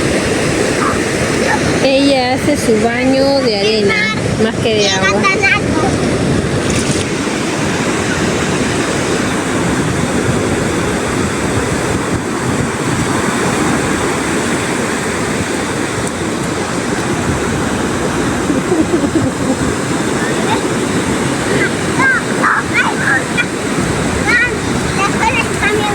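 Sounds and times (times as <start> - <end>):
surf breaking on beach: 0.0 - 25.9
wind buffeting microphone: 0.0 - 25.9.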